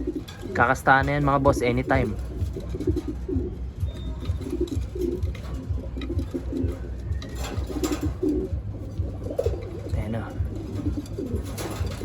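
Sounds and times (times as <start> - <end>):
pigeon cooing: 0.0 - 12.0.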